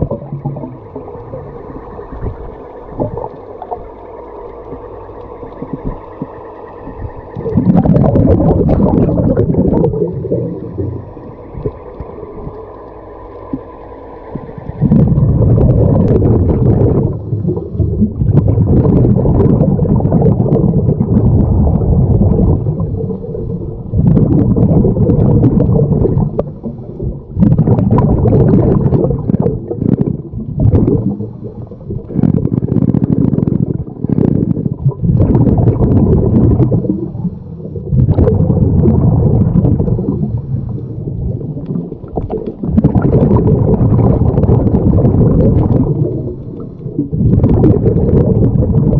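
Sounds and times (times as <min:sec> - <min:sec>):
underwater regulator bubbles gurgling: 0:00.0 - 0:48.9.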